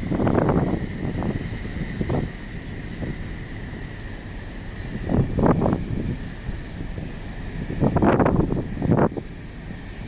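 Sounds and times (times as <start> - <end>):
boat rumble: 0.0 - 10.0
wind buffeting microphone: 0.0 - 10.0.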